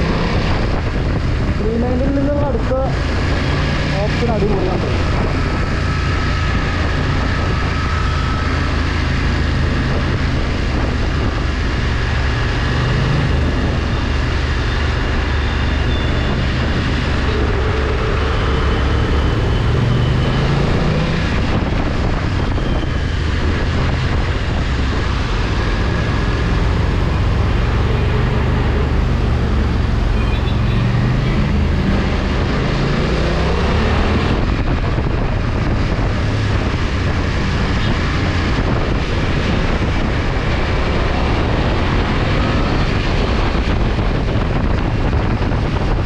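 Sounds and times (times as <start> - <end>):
road and wind rumble: 0.0 - 46.0.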